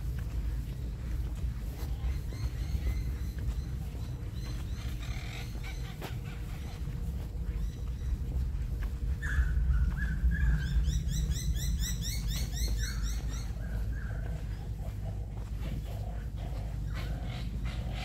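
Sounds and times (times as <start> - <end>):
birds calling: 0.0 - 18.0
steady low rumble: 0.0 - 18.0.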